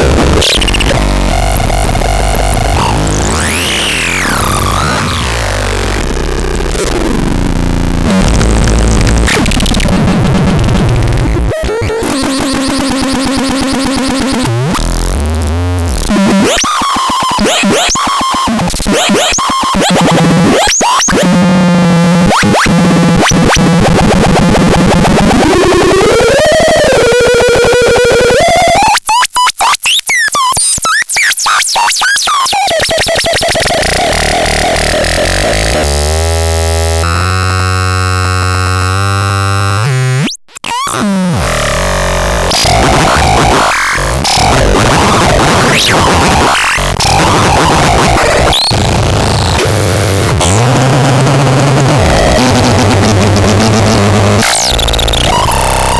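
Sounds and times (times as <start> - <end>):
stuttering synth chops: 0.0 - 21.3, 32.0 - 55.9
harsh synthesizer tones: 0.0 - 29.0, 30.4 - 55.9.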